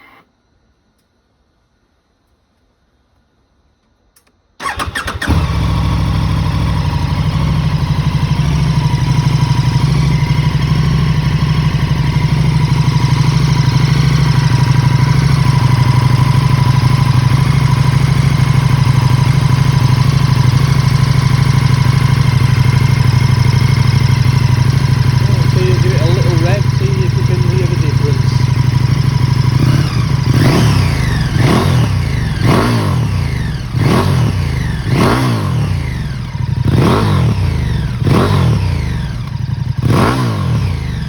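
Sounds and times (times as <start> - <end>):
motorcycle engine idling: 4.6 - 41.0.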